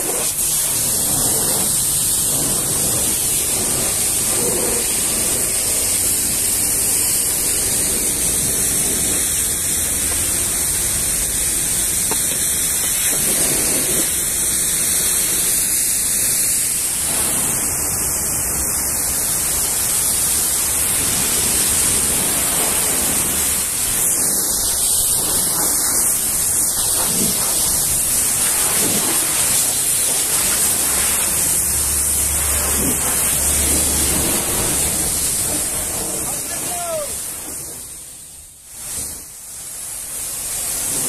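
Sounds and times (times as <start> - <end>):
pressure washer spray hissing: 0.0 - 41.0.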